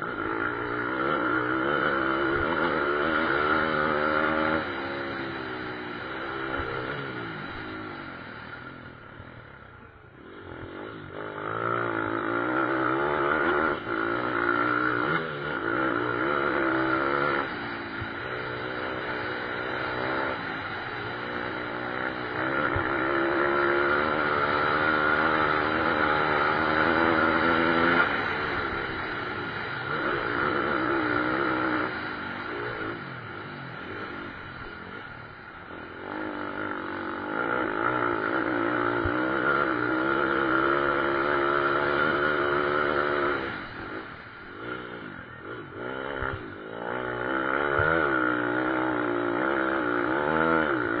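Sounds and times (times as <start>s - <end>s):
pit bike engines revving: 0.0s - 51.0s.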